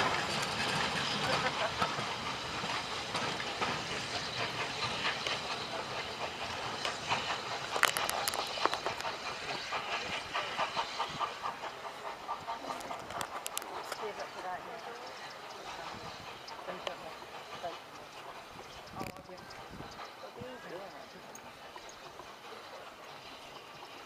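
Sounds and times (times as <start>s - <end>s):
steam hissing from locomotive: 0.0s - 24.0s
train wheels clicking over rails: 0.0s - 24.0s.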